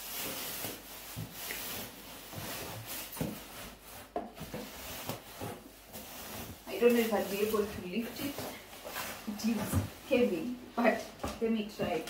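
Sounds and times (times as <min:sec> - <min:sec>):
packaging rubbing and scraping: 0:00.0 - 0:10.9.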